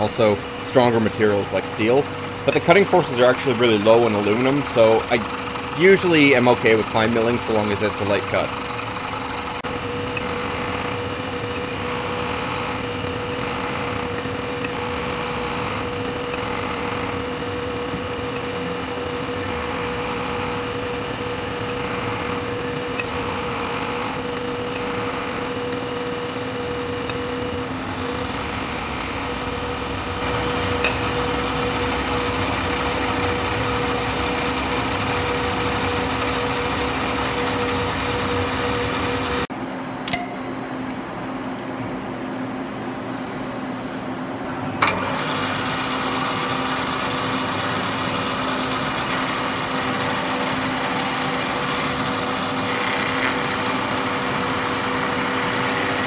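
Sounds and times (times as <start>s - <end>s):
milling machine motor hum: 0.0s - 39.5s, 44.8s - 56.0s.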